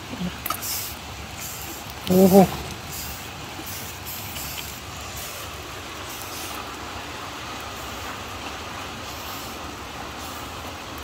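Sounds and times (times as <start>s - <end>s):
rain falling on wet ground: 0.0s - 11.0s.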